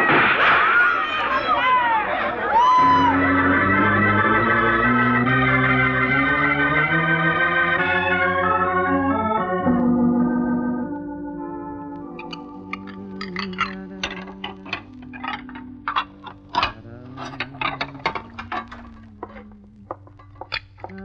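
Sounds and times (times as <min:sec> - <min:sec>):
sustained organ chords: 0:02.8 - 0:21.0.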